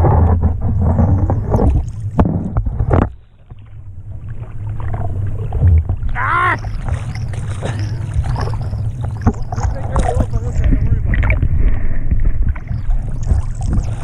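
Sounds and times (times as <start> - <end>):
water splashing against camera: 0.0 - 14.0.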